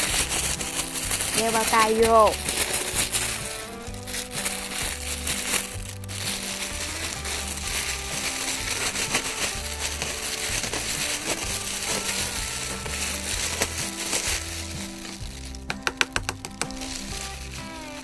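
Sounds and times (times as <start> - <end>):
background music: 0.0 - 18.0
plastic gloves crinkling: 0.0 - 18.0.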